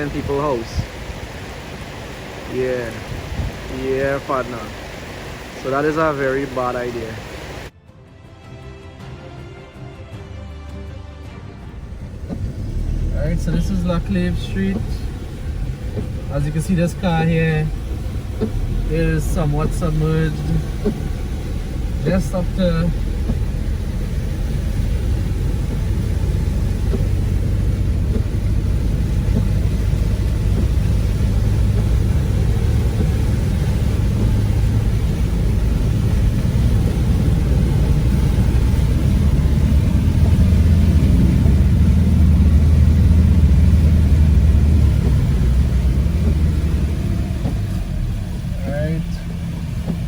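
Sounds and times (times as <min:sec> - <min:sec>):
vehicle engine rumbling: 0:00.0 - 0:07.7, 0:11.6 - 0:50.0.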